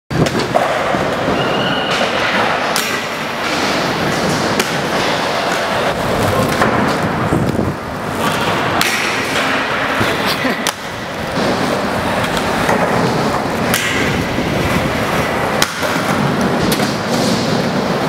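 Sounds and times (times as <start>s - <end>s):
skate clacking on rail: 0.1s - 18.0s
skate wheels rolling on concrete: 0.1s - 18.0s.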